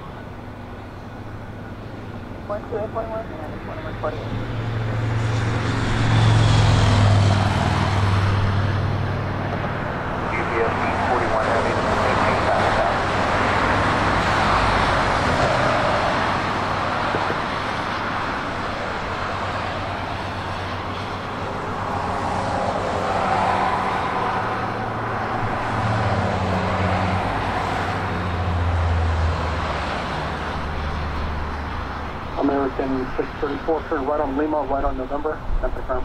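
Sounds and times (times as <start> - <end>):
engines rumbling: 0.0 - 36.0.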